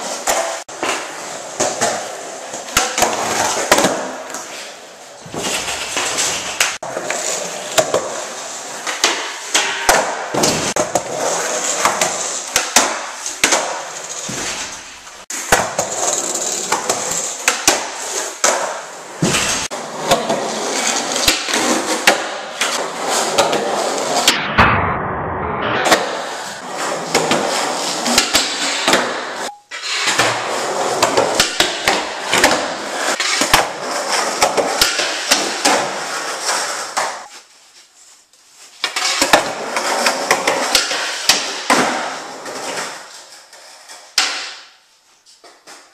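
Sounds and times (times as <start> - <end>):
skateboard wheels rolling: 0.0 - 24.3, 25.8 - 37.4, 38.4 - 45.9
skateboard clacks and knocks: 0.1 - 4.6, 5.2 - 24.2, 25.9 - 37.3, 38.8 - 44.7.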